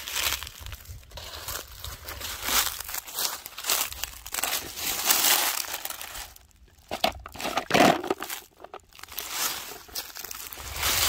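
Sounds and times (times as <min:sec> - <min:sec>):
dry leaves crunching underfoot: 0:00.0 - 0:11.0.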